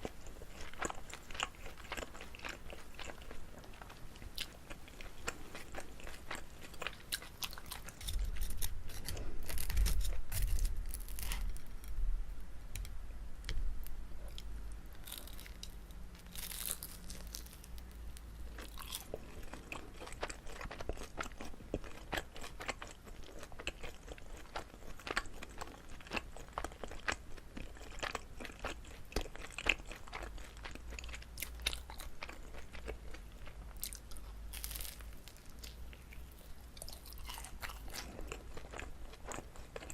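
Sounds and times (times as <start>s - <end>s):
chewing rice cake: 0.0s - 11.7s, 14.3s - 39.9s.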